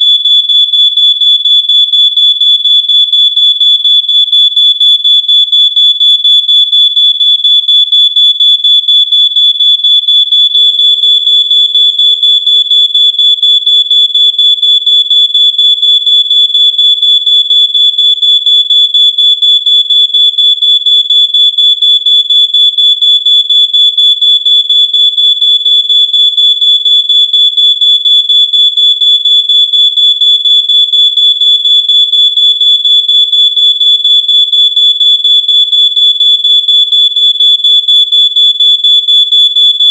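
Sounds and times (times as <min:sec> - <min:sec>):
smoke alarm beeping rapidly: 0:00.0 - 0:39.9.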